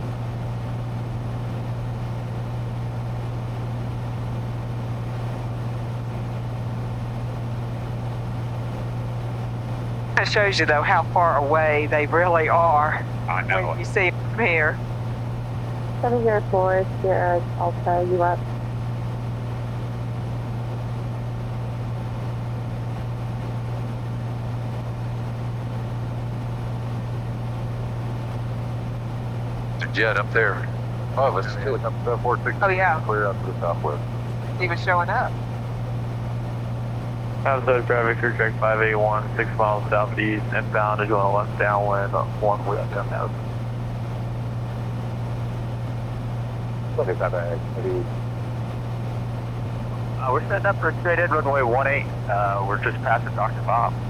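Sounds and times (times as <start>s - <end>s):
airplane engine and propeller droning: 0.0s - 54.0s.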